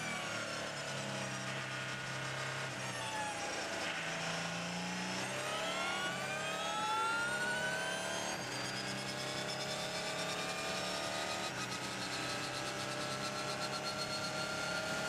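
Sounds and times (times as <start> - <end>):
race car engine accelerating: 1.9 - 15.0.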